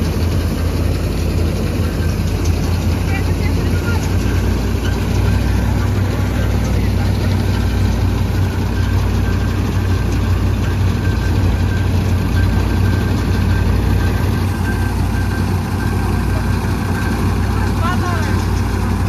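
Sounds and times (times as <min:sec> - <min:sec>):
faint machine whine: 0:00.0 - 0:19.0
tractor engine and reaper drone: 0:00.0 - 0:19.0.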